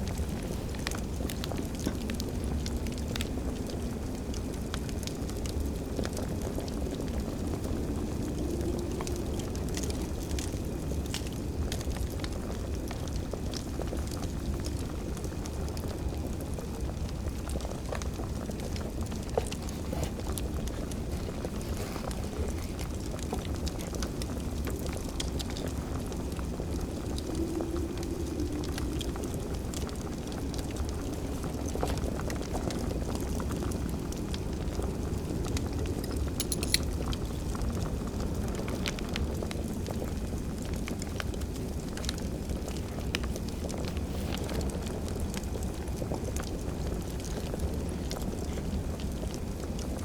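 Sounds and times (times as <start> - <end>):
fire popping and cracking: 0.0 - 50.0
wood fire crackling: 0.0 - 50.0.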